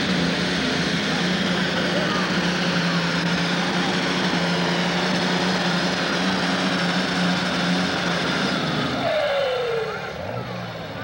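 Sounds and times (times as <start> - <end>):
diesel tractor engine running flat out: 0.0 - 11.0.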